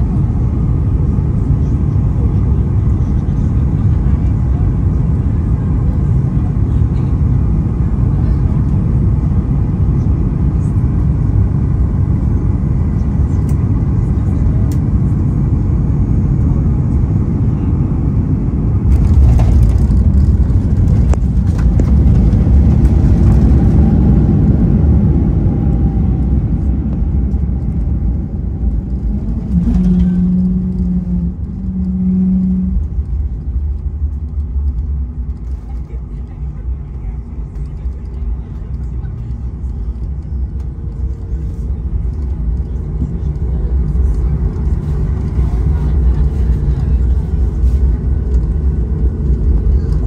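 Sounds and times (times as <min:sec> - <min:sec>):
aircraft engines and wheels rumbling: 0:00.0 - 0:50.0.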